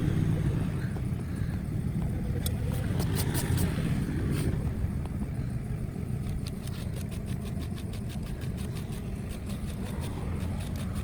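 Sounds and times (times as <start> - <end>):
engine idling with ticking: 0.0 - 11.0.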